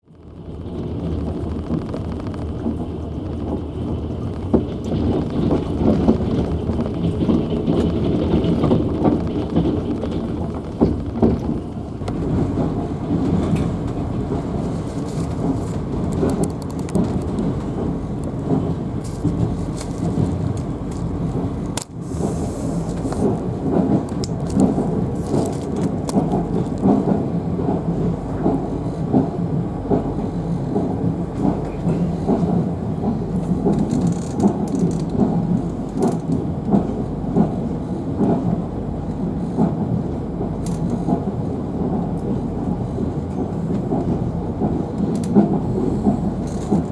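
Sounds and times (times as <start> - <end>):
train wheels rumbling on rails: 0.0 - 46.9
rail clicks: 1.1 - 46.9.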